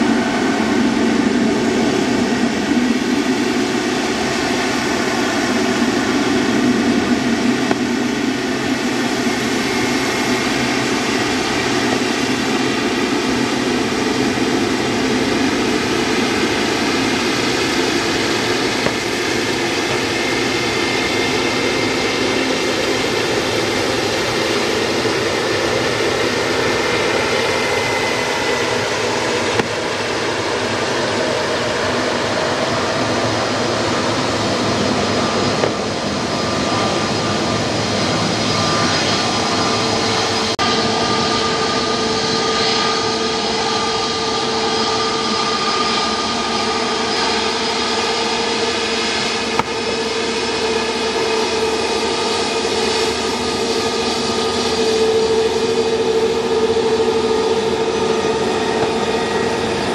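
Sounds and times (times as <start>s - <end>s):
jet engines running with whine: 0.0s - 59.9s.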